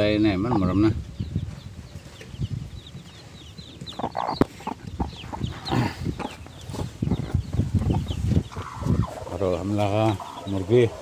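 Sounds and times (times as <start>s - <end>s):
hen clucking: 0.0s - 0.9s, 2.2s - 11.0s
chicks peeping: 0.0s - 11.0s.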